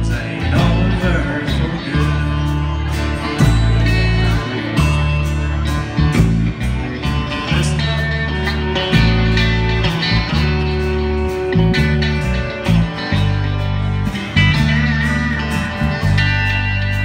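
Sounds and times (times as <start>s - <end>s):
bass line: 0.0s - 17.0s
guitar: 0.0s - 17.0s
steady drum beat: 0.0s - 17.0s.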